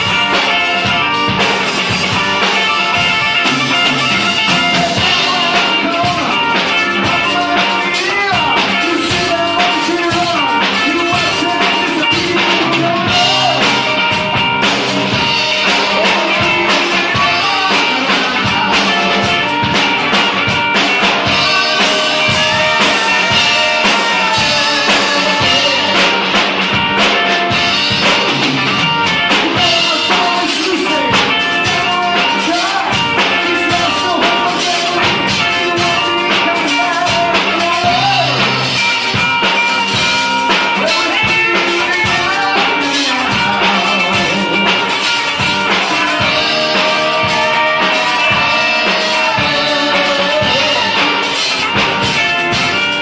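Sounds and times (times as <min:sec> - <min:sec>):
drum kit: 0:00.0 - 0:53.0
guitar: 0:00.0 - 0:53.0.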